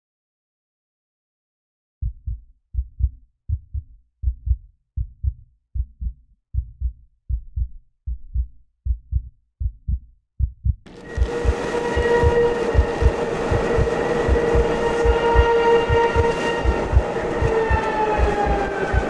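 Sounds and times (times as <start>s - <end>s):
heartbeat thumps: 2.0s - 19.0s.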